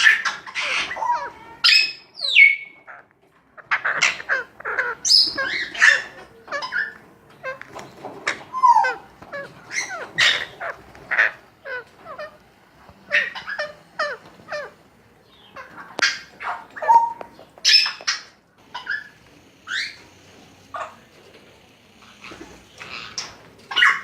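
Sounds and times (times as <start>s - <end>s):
parrots squawking and chirping: 0.0s - 21.2s, 22.0s - 24.0s.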